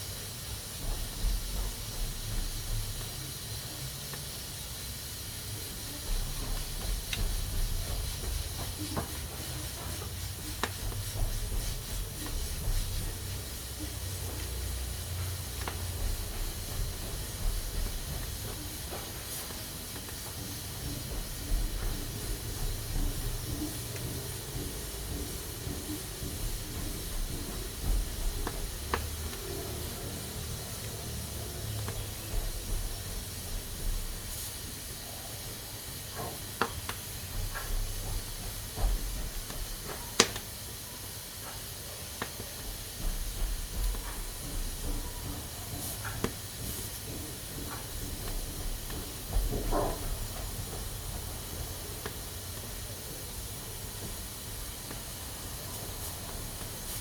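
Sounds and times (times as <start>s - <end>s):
pressure cooker hissing steam: 0.0s - 57.0s.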